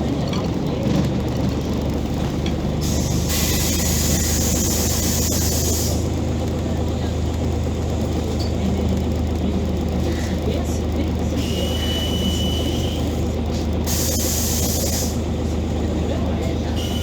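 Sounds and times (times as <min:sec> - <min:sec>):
bus engine droning: 0:00.0 - 0:17.0.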